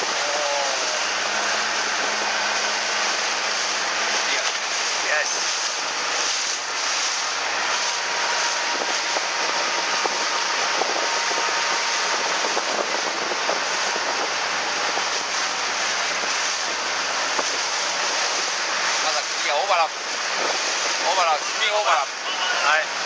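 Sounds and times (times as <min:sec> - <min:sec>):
motorboat engine running: 0:00.0 - 0:23.0
rush of wind and water: 0:00.0 - 0:23.0.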